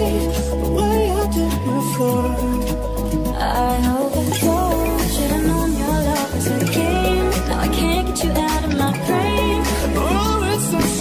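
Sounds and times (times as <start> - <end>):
pop song playing: 0.0 - 11.0.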